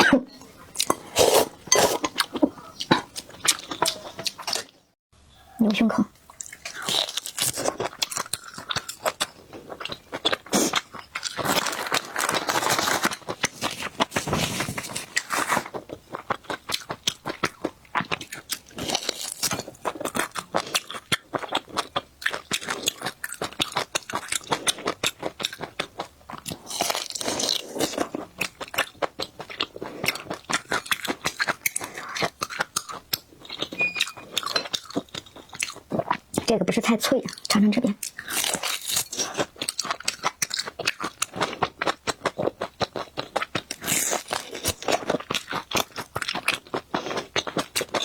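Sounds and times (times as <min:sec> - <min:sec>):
chewing crunchy food: 0:00.7 - 0:04.9, 0:06.2 - 0:48.0.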